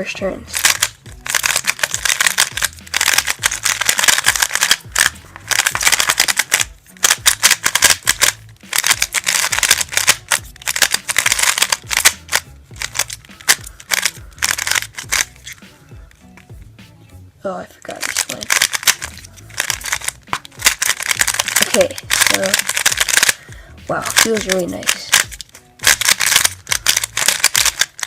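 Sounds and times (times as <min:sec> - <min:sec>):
background music: 0:00.0 - 0:28.0
puzzle cube clicking: 0:00.5 - 0:16.5, 0:17.9 - 0:28.0.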